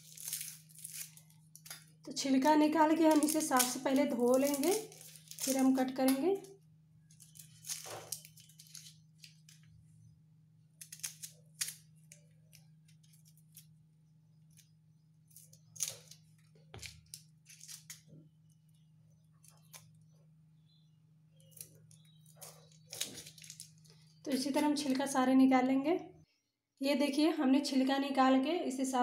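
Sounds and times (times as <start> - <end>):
onion skins rustling and crackling: 0.0 - 10.0, 10.8 - 20.8, 21.4 - 25.2.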